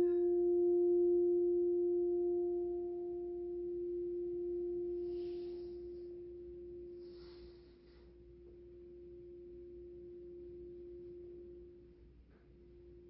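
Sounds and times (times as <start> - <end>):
singing bowl ringing: 0.0 - 13.0.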